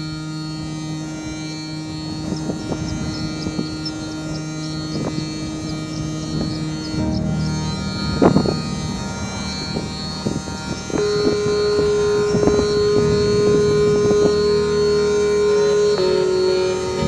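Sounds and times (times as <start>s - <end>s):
low drone chord: 0.0s - 17.0s
soft plucked notes: 1.9s - 17.0s.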